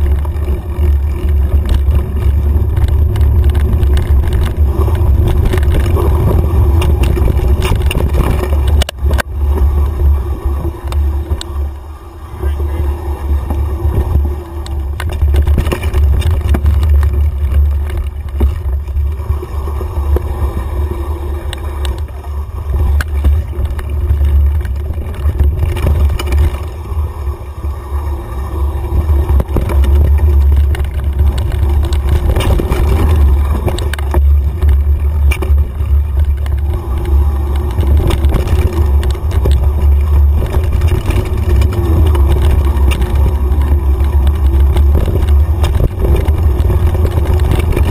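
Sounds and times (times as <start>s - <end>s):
bike rattling and knocking: 0.0s - 47.9s
wind rumble on microphone: 0.0s - 47.9s.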